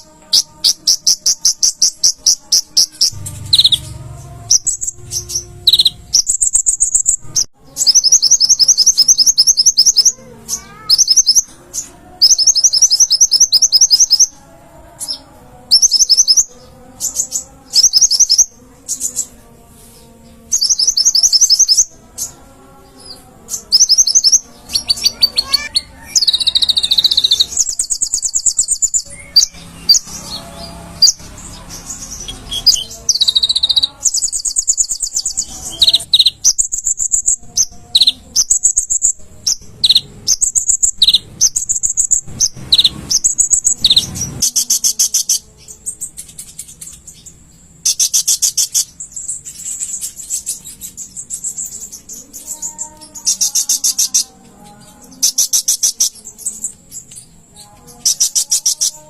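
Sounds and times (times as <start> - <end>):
bird singing rapid high trills: 0.0 - 59.0.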